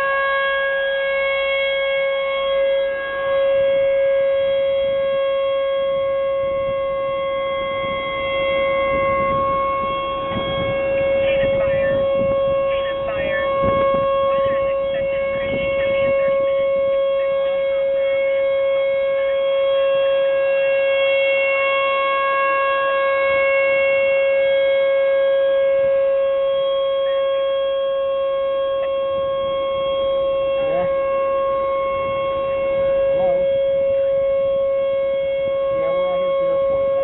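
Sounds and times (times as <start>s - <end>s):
warning siren steady tone: 0.0s - 37.0s.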